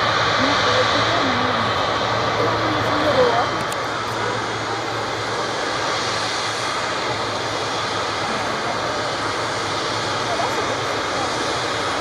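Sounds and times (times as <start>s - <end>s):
jet engine rushing: 0.0s - 12.0s.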